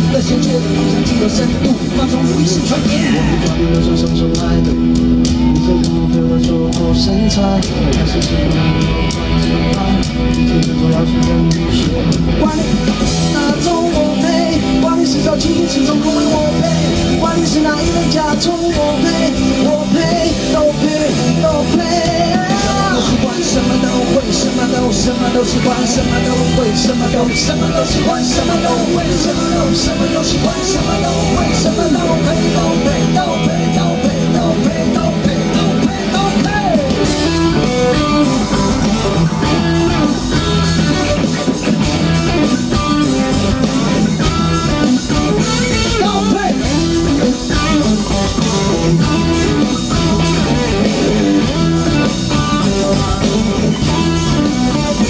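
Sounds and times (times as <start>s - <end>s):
bass guitar: 0.0s - 55.0s
drums: 0.0s - 55.0s
electric guitars: 0.0s - 55.0s
man singing: 0.0s - 55.0s.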